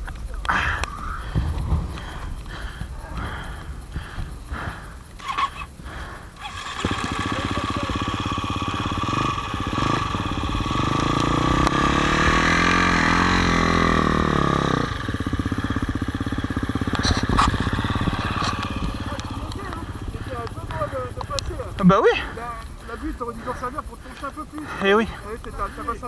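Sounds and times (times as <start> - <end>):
off-road motorcycle engine revving: 0.0 - 26.0.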